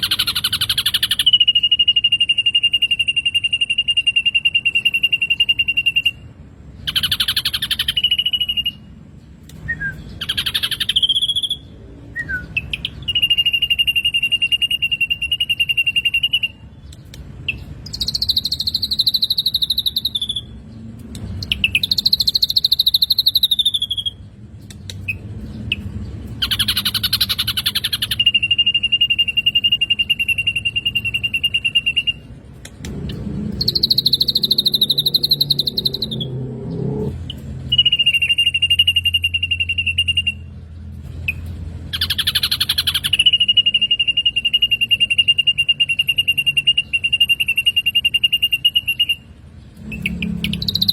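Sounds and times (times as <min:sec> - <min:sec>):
bird song with buzzy trills: 0:00.0 - 0:50.9.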